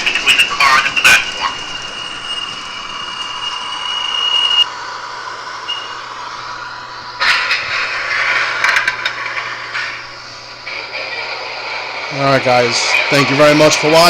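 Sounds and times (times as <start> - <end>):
steady electronic tone: 0.0 - 11.5
air hiss: 0.0 - 14.0
model train running on track: 0.0 - 14.0.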